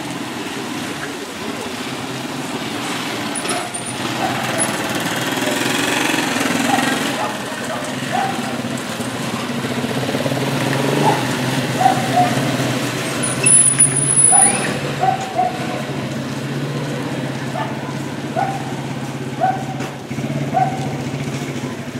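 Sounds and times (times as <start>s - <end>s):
steady engine hum: 0.0s - 21.9s.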